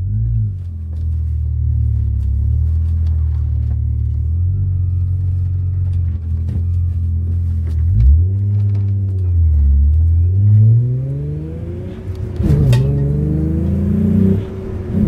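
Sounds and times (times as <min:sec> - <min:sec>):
car engine droning from inside: 0:00.0 - 0:15.0.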